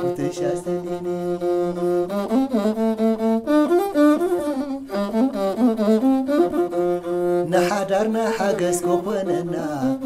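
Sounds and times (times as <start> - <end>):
bowed fiddle melody: 0.0 - 10.0.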